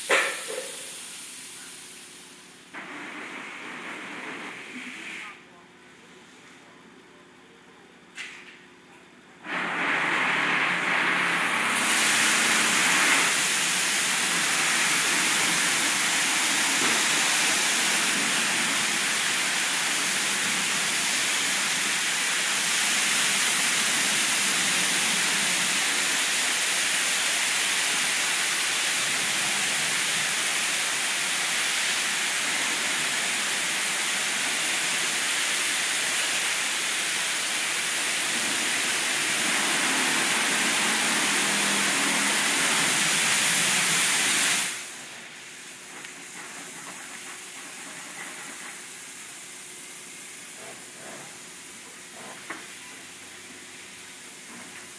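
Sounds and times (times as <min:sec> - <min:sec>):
high-pressure water jets spraying: 0:00.0 - 0:01.9, 0:09.4 - 0:54.9.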